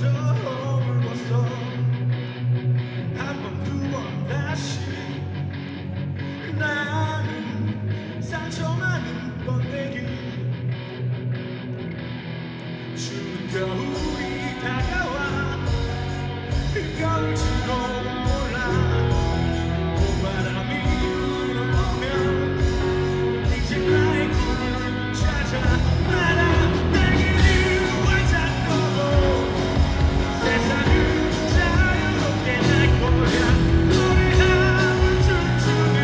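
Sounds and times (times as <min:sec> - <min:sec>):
man singing rock song: 0:00.0 - 0:11.0, 0:12.8 - 0:36.0
rock band: 0:00.0 - 0:36.0.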